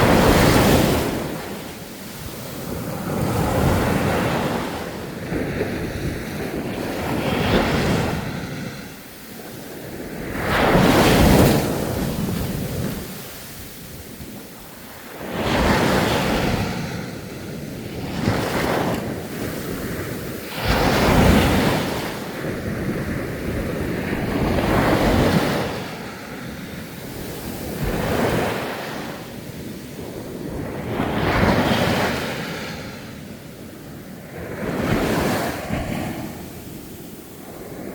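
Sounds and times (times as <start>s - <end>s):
sea waves breaking on a beach: 0.0s - 37.9s.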